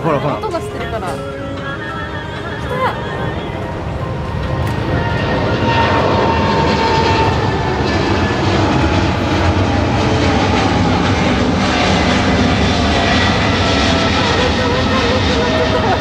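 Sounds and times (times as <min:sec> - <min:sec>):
jet engines flying past: 0:00.0 - 0:16.0.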